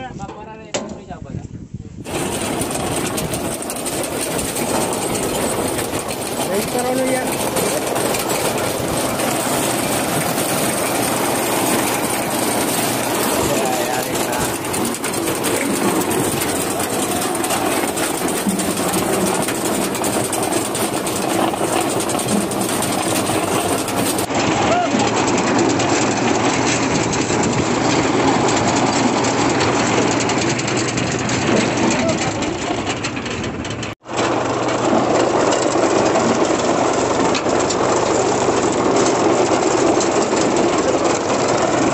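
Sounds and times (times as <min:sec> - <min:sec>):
conveyor clatter with potatoes tumbling: 0:02.0 - 0:41.9
tractor engine drone: 0:02.1 - 0:41.9.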